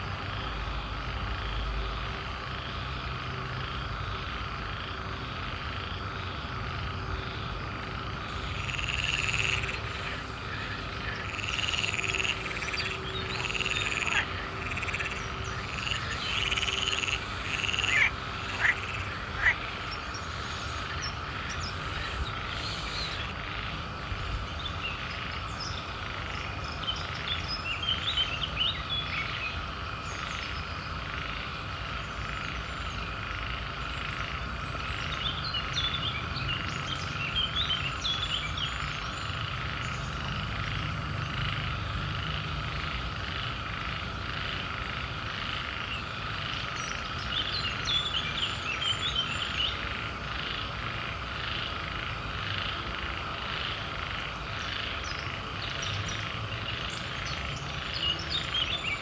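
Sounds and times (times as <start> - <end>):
frogs chirping: 0.0 - 59.0
frogs croaking: 0.0 - 59.0
frogs trilling: 0.0 - 59.0.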